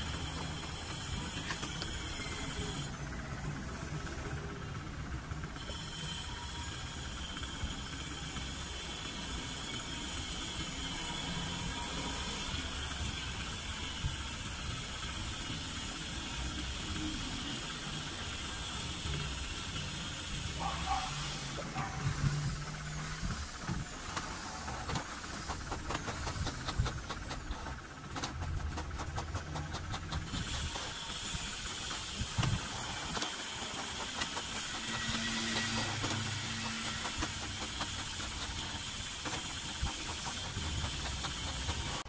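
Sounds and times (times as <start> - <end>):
inkjet printer whirring: 0.0 - 42.0.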